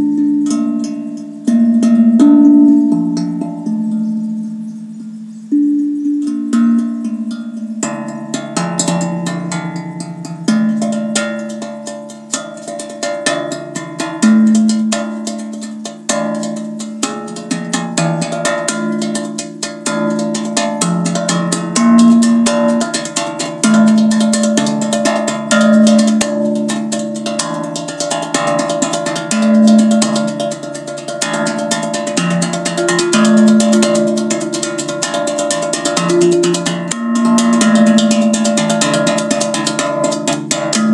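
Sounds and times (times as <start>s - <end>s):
steel tongue drum played by hand: 0.0s - 40.9s.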